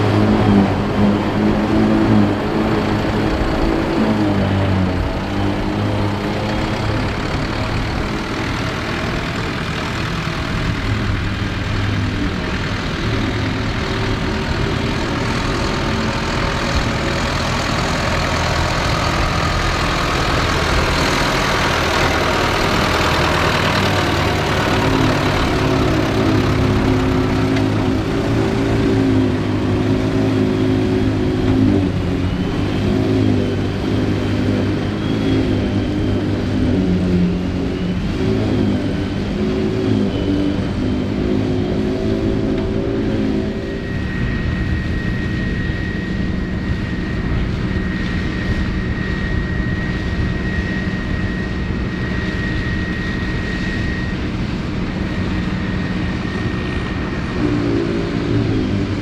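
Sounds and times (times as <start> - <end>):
forage harvester whirring: 0.0 - 59.0
tractor diesel engine under load: 0.0 - 59.0.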